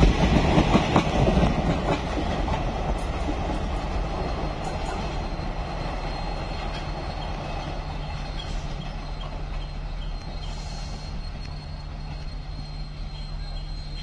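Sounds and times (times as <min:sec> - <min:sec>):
train coaches rumbling and rattling: 0:00.0 - 0:14.0.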